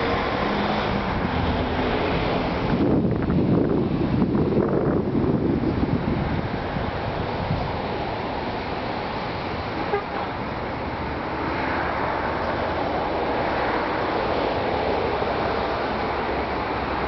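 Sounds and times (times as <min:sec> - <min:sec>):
passing street traffic: 0:00.0 - 0:17.0.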